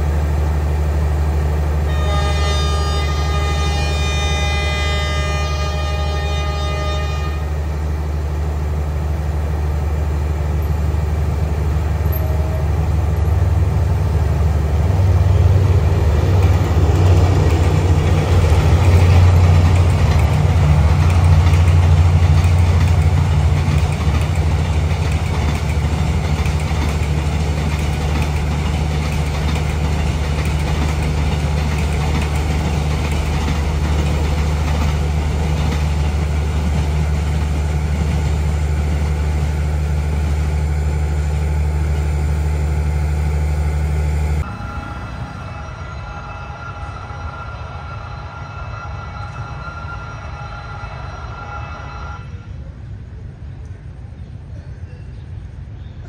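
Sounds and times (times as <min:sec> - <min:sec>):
diesel locomotive engine humming: 0:00.0 - 0:56.0
train wheels rumbling on rails: 0:00.0 - 0:56.0.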